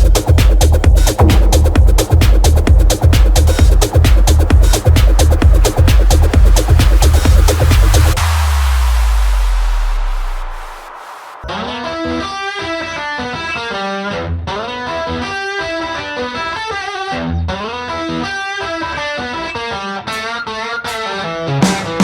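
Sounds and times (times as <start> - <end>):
distorted electric guitar music: 0.0 - 22.0.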